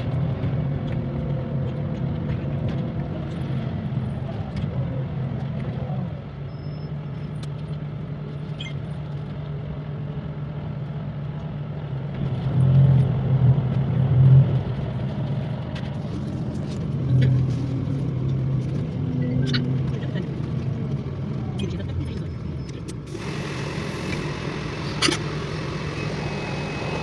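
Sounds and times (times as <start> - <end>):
bus engine droning: 0.0 - 27.0.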